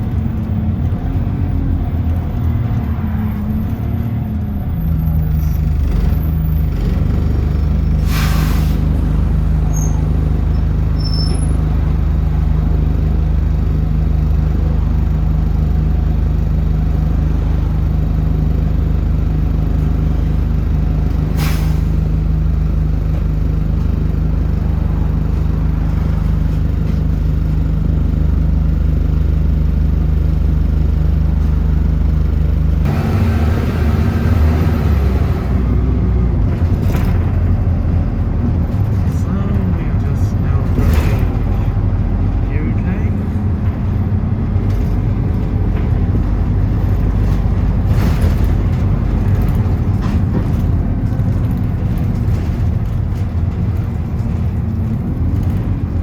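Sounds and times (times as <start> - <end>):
bus engine humming: 0.0 - 56.0.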